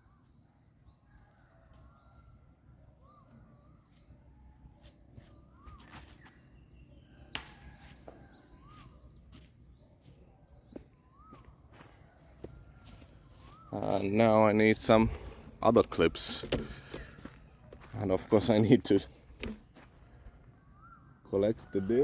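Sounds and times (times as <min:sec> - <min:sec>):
bird calling: 0:01.2 - 0:22.0.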